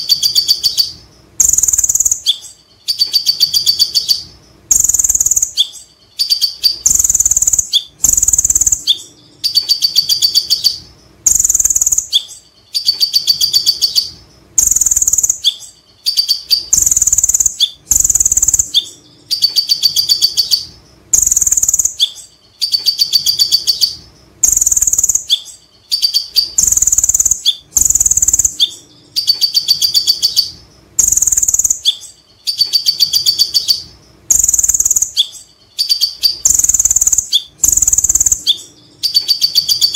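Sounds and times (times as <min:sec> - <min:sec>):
sunbird trilling song: 0:00.0 - 0:39.9.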